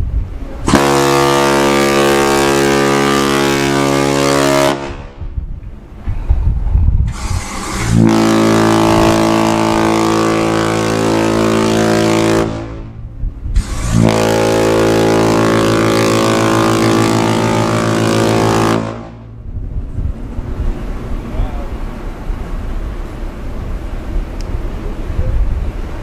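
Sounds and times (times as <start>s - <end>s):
deep ship's horn blasts: 0.0s - 6.0s, 7.1s - 26.0s.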